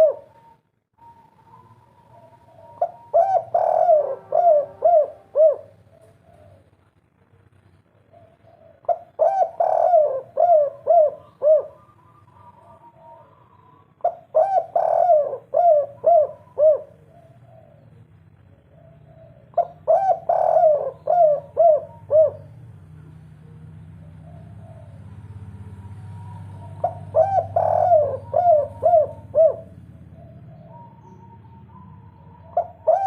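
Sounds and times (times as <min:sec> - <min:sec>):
dove cooing: 0:00.0 - 0:06.9, 0:08.1 - 0:33.0.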